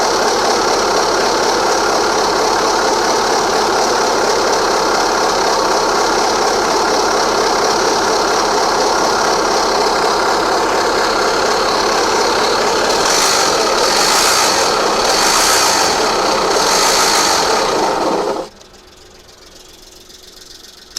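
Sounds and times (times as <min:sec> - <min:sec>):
scooter engine rattling and knocking: 0:00.0 - 0:20.9.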